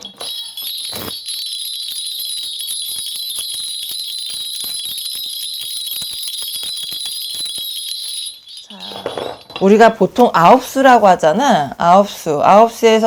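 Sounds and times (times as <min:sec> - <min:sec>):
metal hand bells jingling: 0:00.0 - 0:11.9.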